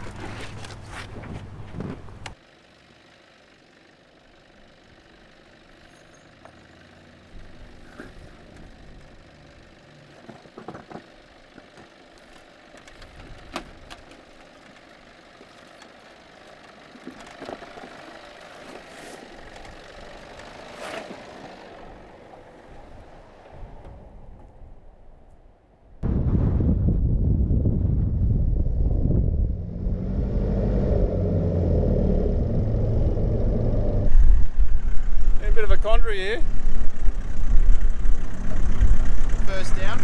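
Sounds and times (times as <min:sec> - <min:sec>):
vehicle engine running slowly: 0:00.0 - 0:26.1, 0:27.0 - 0:40.0.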